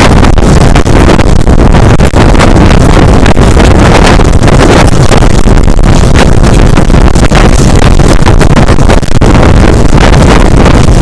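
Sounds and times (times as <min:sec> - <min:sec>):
wind buffeting a microphone: 0:00.0 - 0:11.0.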